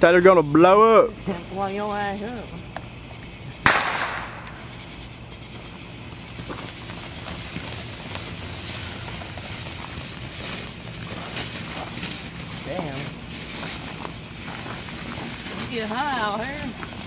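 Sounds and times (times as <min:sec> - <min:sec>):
firework crackles: 0:00.0 - 0:17.0
firework fountain hissing: 0:00.0 - 0:17.0.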